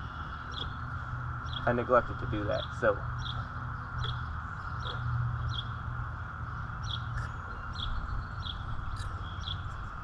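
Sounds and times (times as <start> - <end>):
bird chirping: 0.0 - 10.0
low background rumble: 0.0 - 10.0.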